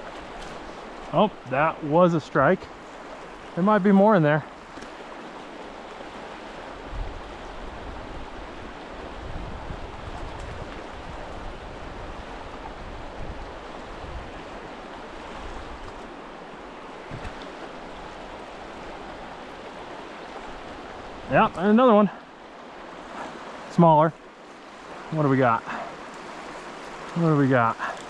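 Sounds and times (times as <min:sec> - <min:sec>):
river current rushing: 0:00.0 - 0:28.0.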